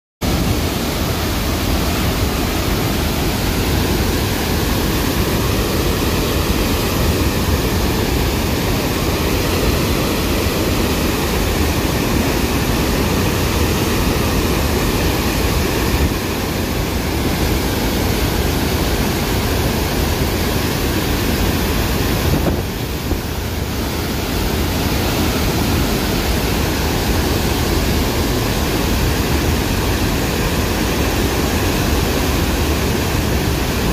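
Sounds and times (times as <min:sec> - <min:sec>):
water rushing from dam spillway: 0:00.2 - 0:33.9.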